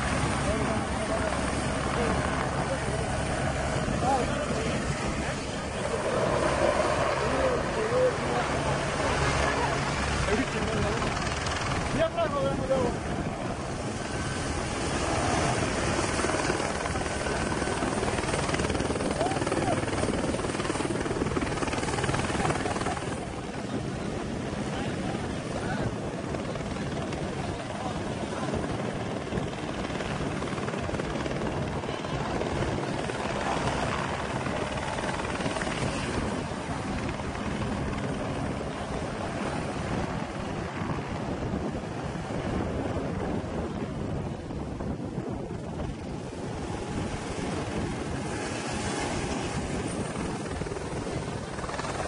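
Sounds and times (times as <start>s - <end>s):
helicopter hovering: 0.0s - 52.0s.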